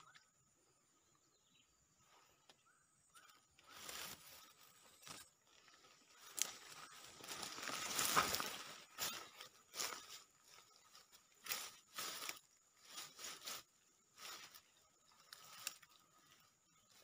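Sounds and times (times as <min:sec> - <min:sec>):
dry grass rustling underfoot: 0:02.0 - 0:17.0.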